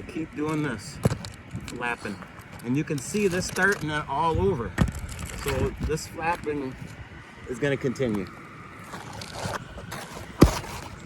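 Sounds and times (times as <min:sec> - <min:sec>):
rustling wind: 0:00.0 - 0:11.0.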